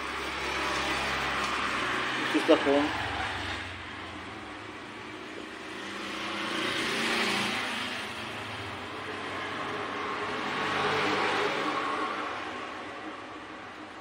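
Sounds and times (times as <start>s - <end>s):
road vehicle passing: 0.0s - 14.0s.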